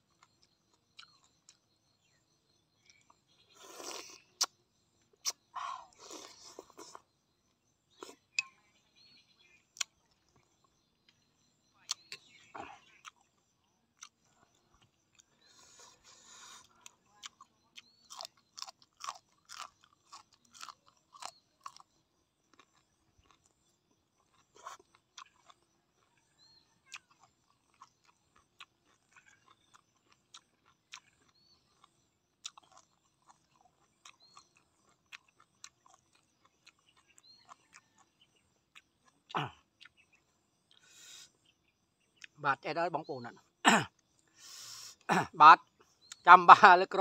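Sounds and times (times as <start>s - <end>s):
person chewing food: 0.0s - 8.6s, 9.6s - 42.4s, 43.9s - 46.3s.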